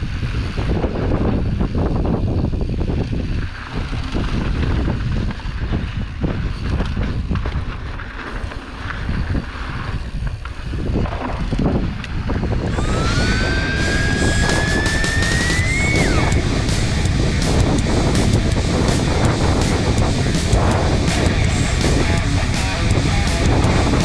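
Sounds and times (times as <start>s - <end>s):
tyres on dirt trail: 0.0s - 24.0s
wind rushing over microphone: 0.0s - 24.0s.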